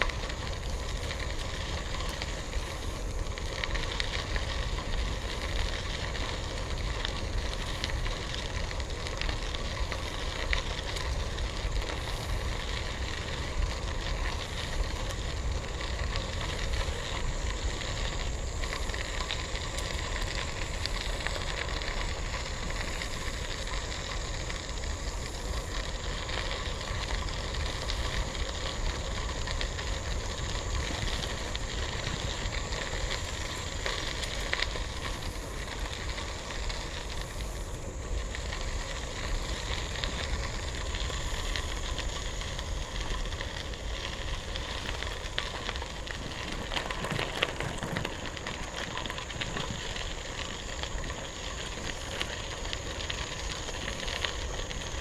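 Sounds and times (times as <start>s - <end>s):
bicycle tyres crunching gravel: 0.0s - 55.0s.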